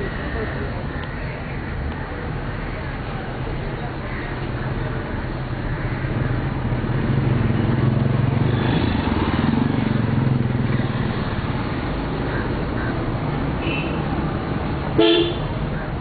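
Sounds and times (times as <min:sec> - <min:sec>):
road noise: 0:00.0 - 0:16.0
vehicle engine running: 0:02.2 - 0:16.0.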